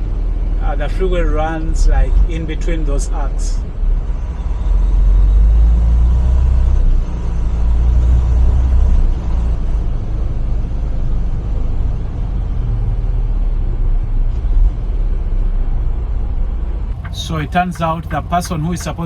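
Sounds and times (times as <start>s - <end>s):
road noise: 0.0s - 19.0s
truck engine rumble: 0.0s - 19.0s.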